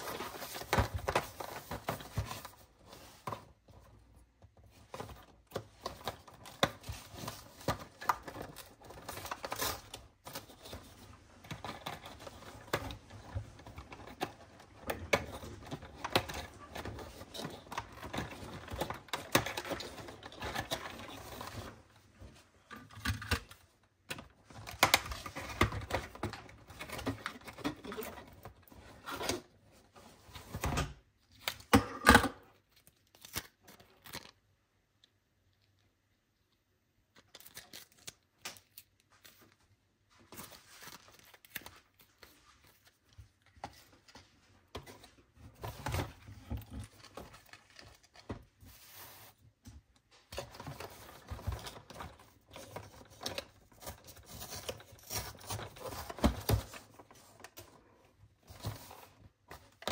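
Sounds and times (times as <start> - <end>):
cardboard rustling: 0.0 - 31.1, 39.0 - 59.9.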